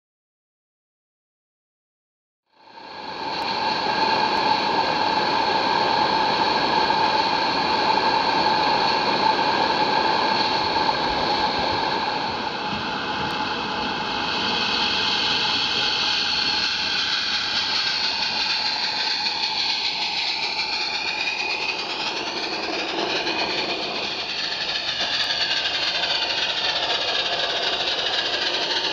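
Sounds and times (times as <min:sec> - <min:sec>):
steam locomotive hissing: 0:02.6 - 0:28.9.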